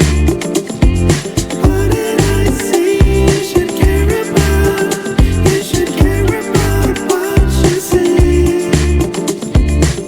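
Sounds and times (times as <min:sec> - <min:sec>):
funk music with heavy bass: 0:00.0 - 0:10.0.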